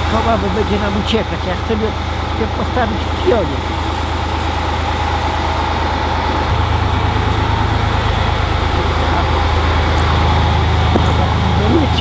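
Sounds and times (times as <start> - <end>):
excavator diesel engine running: 0.0 - 12.0
thin steady whine: 0.0 - 12.0.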